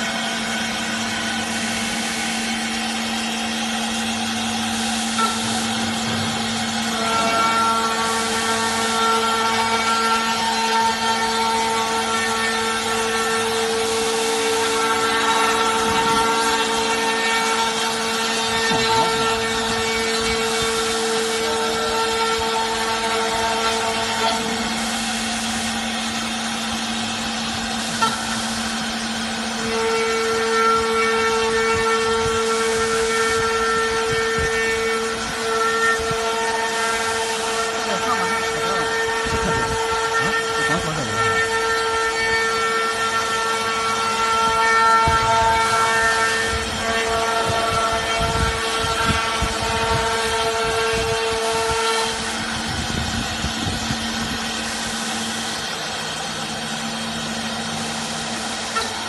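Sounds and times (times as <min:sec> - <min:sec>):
router spindle high whine: 0:00.0 - 0:59.0.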